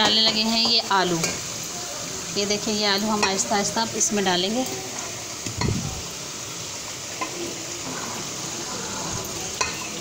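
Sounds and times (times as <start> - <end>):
meat sauce sizzling in a pot: 0.0 - 10.0.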